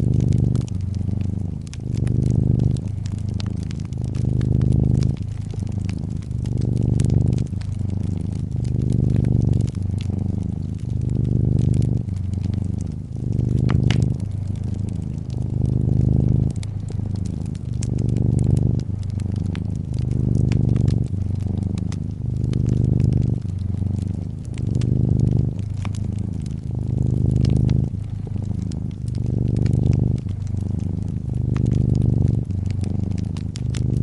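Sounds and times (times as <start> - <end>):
cat purring: 0.0 - 34.0
fireplace crackling: 0.0 - 34.0.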